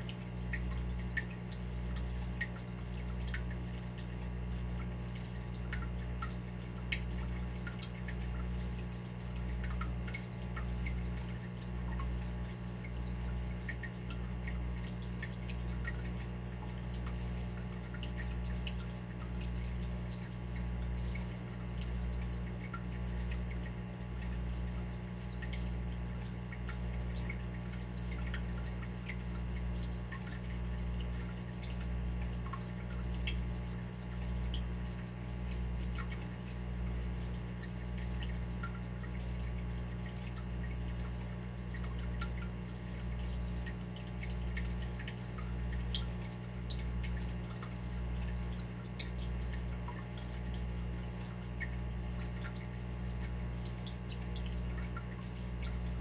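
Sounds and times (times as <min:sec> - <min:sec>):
water dripping: 0:00.0 - 0:56.0.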